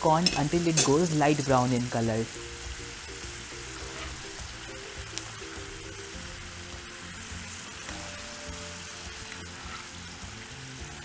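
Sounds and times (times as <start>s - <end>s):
corn deep-frying in hot oil: 0.0s - 11.0s
soft background music: 0.0s - 11.0s.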